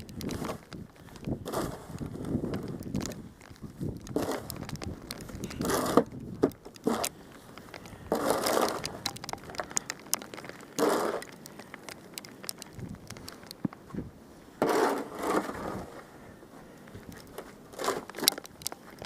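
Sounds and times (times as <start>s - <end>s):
snow crunching: 0.0s - 19.0s.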